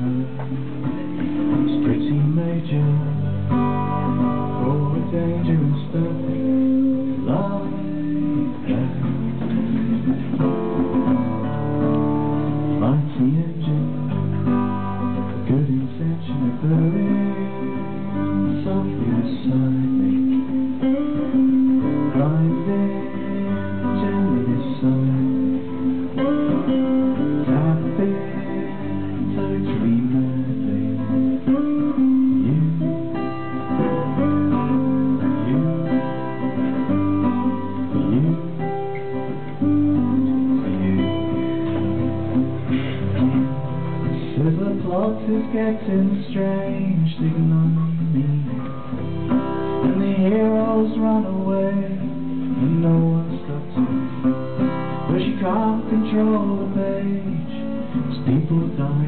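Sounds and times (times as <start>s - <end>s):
acoustic guitar strummed and picked: 0.0s - 59.0s.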